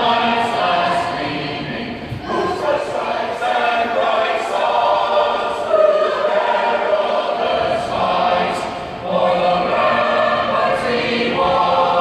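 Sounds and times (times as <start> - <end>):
choir singing long notes: 0.0 - 12.0.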